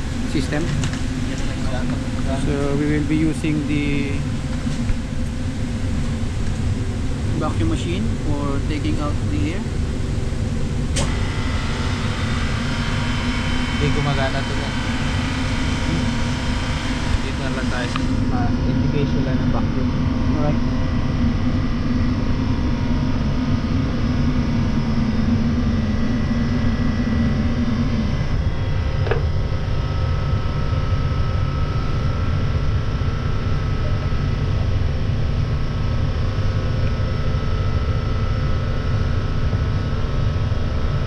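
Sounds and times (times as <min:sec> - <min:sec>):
low hum: 0:00.0 - 0:41.0
machinery drone: 0:00.0 - 0:41.0
steady higher whine: 0:00.0 - 0:41.0.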